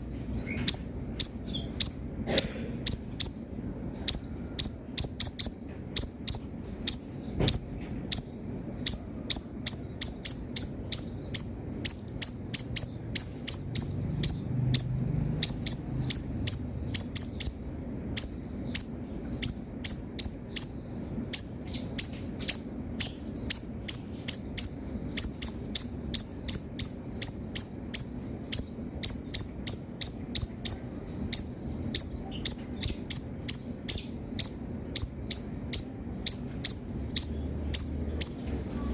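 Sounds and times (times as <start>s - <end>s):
sunbird chirping: 0.0s - 38.9s.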